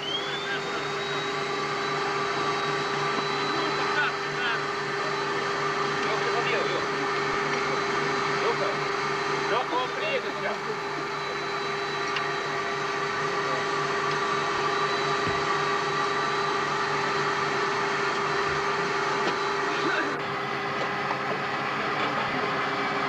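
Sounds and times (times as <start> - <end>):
aircraft cockpit engine drone: 0.0 - 23.0
whining tones: 0.0 - 23.0.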